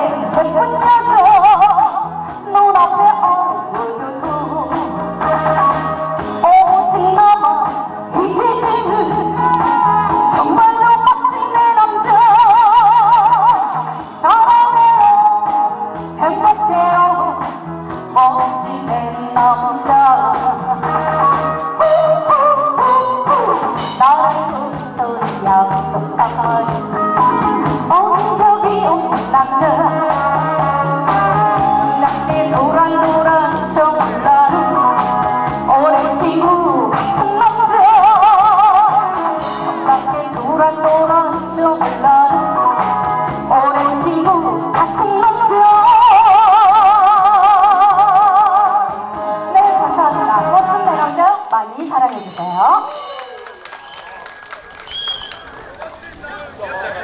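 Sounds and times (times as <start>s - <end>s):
woman singing: 0.0s - 53.0s
instrumental accompaniment: 0.0s - 56.2s
backing music: 0.0s - 57.0s.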